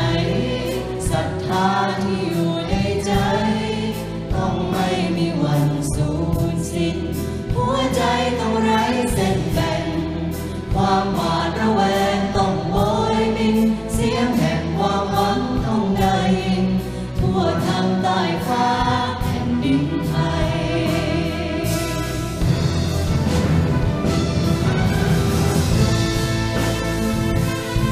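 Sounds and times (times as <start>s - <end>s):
choir singing: 0.0s - 27.9s
symphony orchestra: 0.0s - 27.9s.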